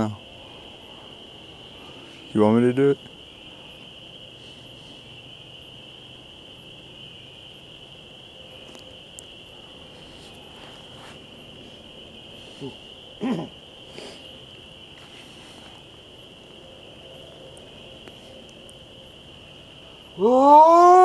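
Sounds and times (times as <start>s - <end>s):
faint high-pitched whine: 0.0s - 21.0s.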